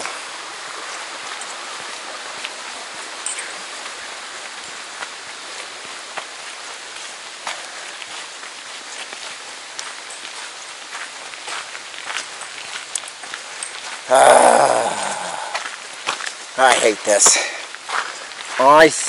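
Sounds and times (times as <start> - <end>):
rain on forest canopy: 0.0 - 19.0.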